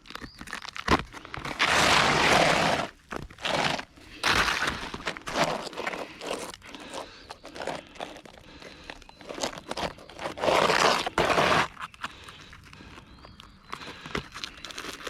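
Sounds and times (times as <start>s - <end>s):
roof shingle crunching and tearing: 0.0s - 15.0s.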